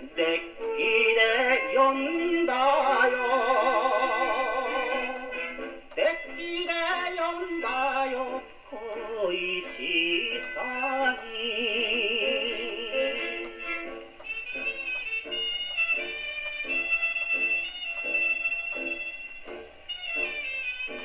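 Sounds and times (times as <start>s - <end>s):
gramophone record playing a song: 0.0s - 21.0s.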